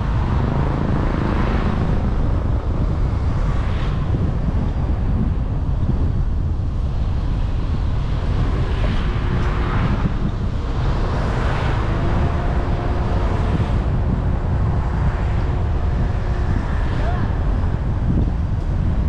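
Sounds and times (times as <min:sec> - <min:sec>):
car driving in traffic: 0:00.0 - 0:19.0.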